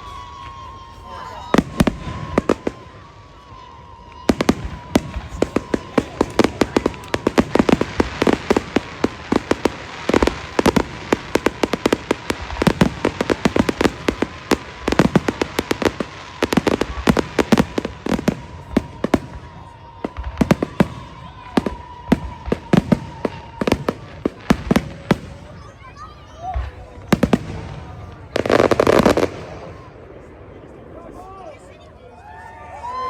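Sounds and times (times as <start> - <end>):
fireworks booms: 0.0 - 31.7
fireworks bangs and crackling: 0.0 - 33.0.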